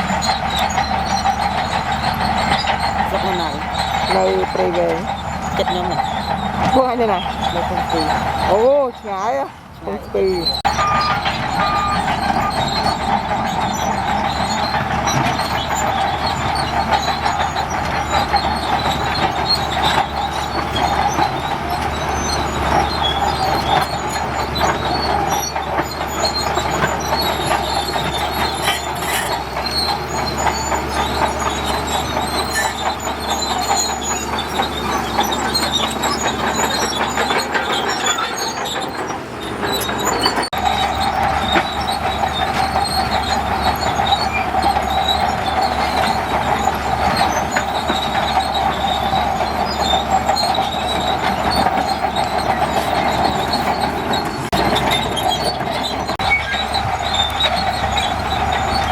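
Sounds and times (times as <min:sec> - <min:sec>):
bulldozer engine running: 0:00.0 - 0:58.9
steel tracks clattering: 0:00.0 - 0:58.9.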